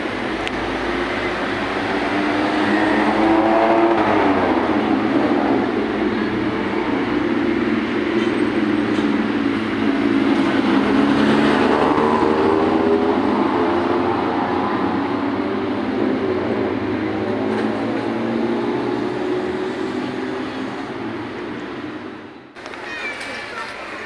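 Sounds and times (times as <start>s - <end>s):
traffic rumble: 0.0s - 24.0s
vehicle engine: 0.0s - 24.0s.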